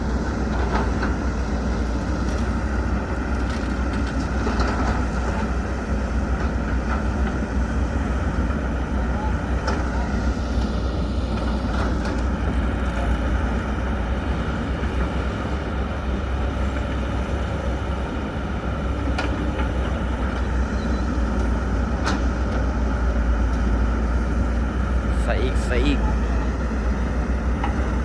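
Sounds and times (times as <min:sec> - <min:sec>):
heavy diesel engine rumbling: 0:00.0 - 0:28.0.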